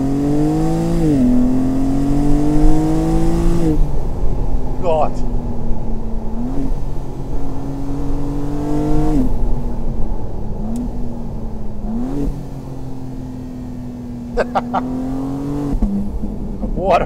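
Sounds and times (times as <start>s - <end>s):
car engine accelerating from cabin: 0.0s - 17.0s.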